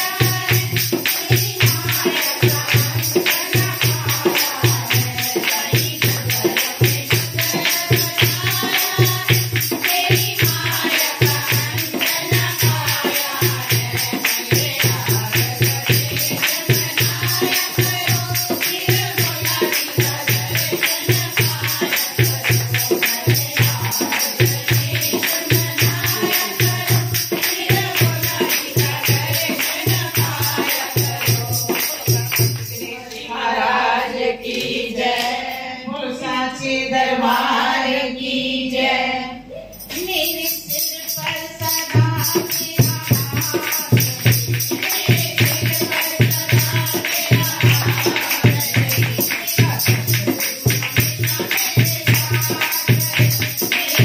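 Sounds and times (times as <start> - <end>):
dholak drum beat: 0.0 - 32.8, 41.0 - 54.0
rhythmic hand clapping: 0.0 - 33.3, 39.8 - 54.0
women singing devotional song: 0.0 - 54.0.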